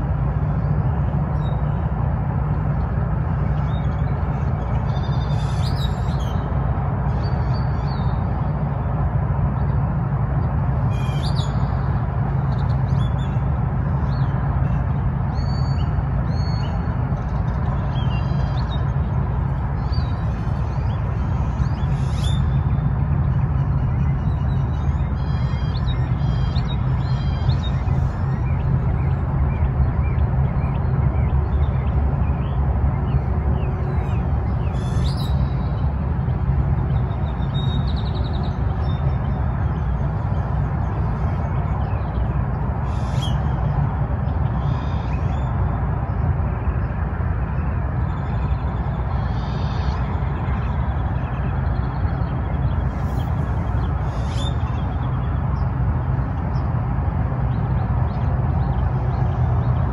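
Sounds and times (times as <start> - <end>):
steady low rumble: 0.0 - 59.9
birds chirping: 10.4 - 59.9.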